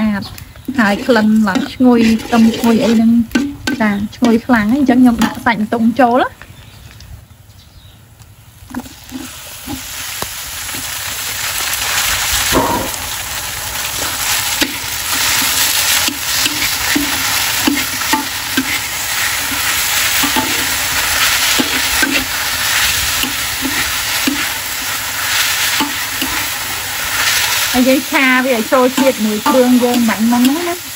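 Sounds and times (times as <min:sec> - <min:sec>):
eel sizzling in a wok: 0:00.0 - 0:06.2, 0:08.5 - 0:30.9
metal spatula scraping wok: 0:00.7 - 0:04.5, 0:08.7 - 0:30.9.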